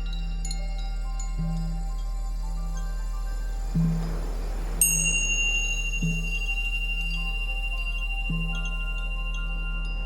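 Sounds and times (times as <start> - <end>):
soft chime-like notes: 0.0 - 10.0.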